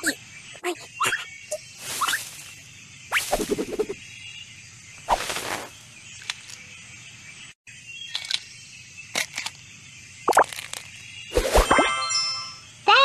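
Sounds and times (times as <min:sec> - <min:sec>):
outdoor nature background: 0:00.0 - 0:13.0.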